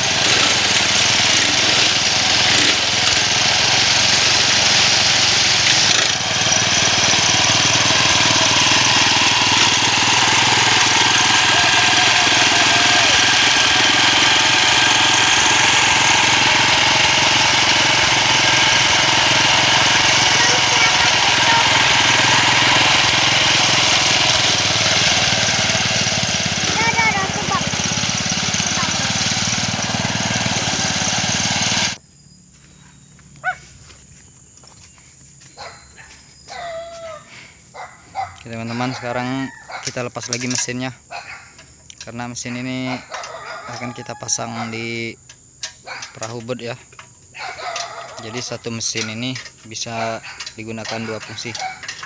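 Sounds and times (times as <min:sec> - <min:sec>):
grass cutter engine running: 0:00.0 - 0:32.0, 0:41.8 - 0:52.0.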